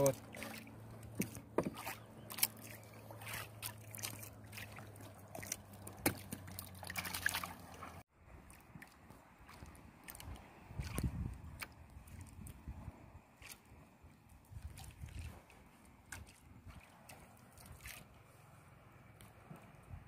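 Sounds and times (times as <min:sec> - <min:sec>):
water lapping against hull: 0:00.0 - 0:18.7.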